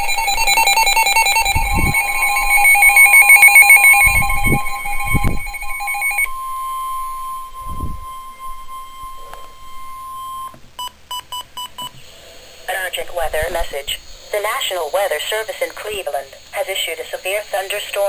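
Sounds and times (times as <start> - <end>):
harsh pulsing data buzz: 0.0 - 10.6, 12.6 - 18.0.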